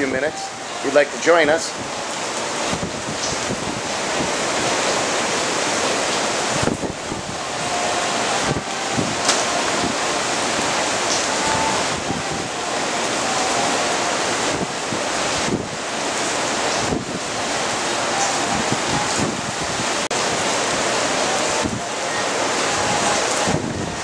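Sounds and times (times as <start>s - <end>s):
ocean surf rushing: 0.0s - 24.0s
gusty wind on microphone: 1.7s - 24.0s.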